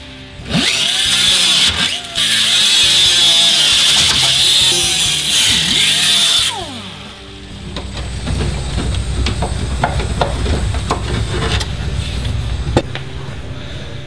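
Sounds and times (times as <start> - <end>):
cutoff wheel whining through steel: 0.0 - 14.0.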